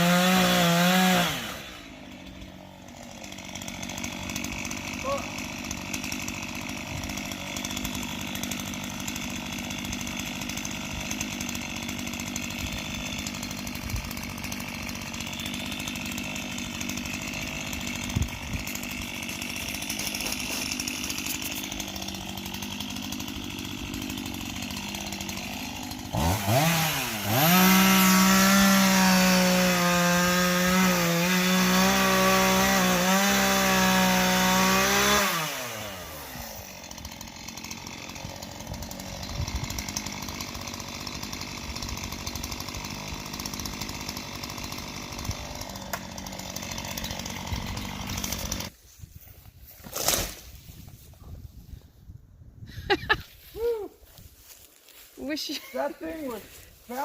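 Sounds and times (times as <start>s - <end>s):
chainsaw revving and cutting wood: 0.0s - 51.7s, 52.8s - 57.0s.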